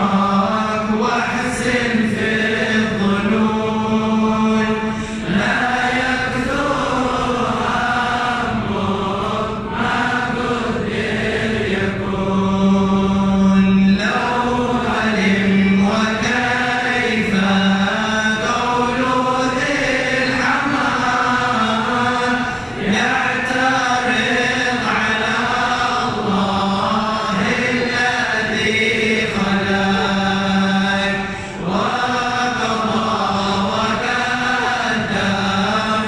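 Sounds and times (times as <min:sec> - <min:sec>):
men chanting in unison: 0:00.0 - 0:36.0.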